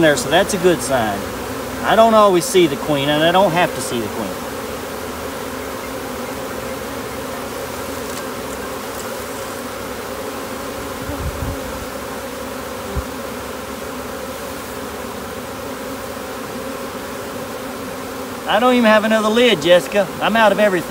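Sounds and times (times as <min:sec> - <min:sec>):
honey bees buzzing: 0:00.0 - 0:20.9.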